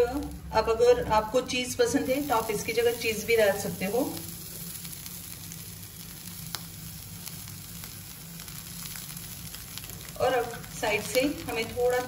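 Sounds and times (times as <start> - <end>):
batter sizzling on a pan: 0.0 - 12.0.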